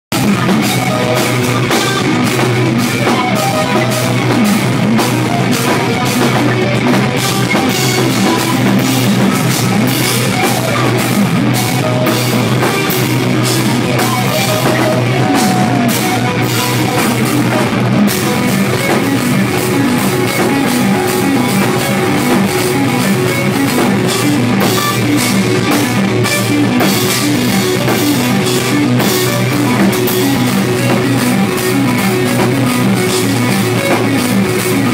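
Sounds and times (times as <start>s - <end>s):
distorted electric guitar riffs: 0.1s - 34.9s
drum kit with cymbal hits: 0.1s - 34.9s.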